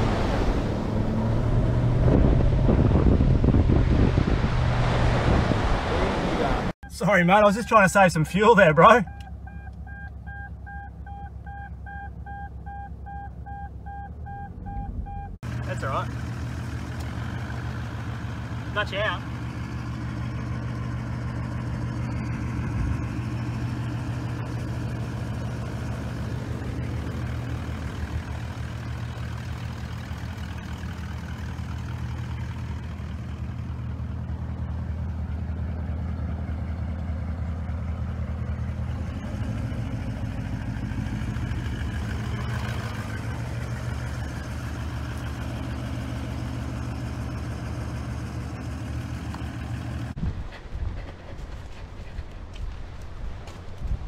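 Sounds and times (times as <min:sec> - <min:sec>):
car engine idling: 0:06.8 - 0:53.6.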